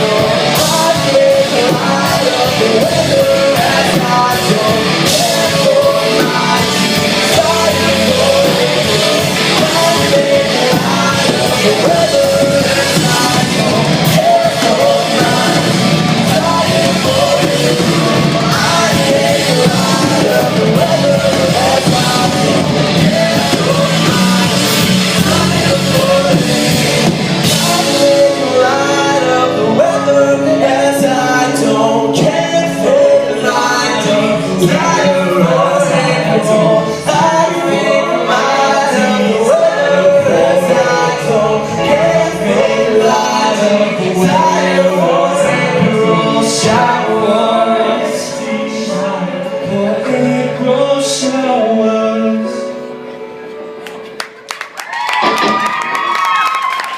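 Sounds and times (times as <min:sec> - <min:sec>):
vocal group singing in harmony: 0:00.0 - 0:53.0
band accompaniment: 0:00.0 - 0:56.9.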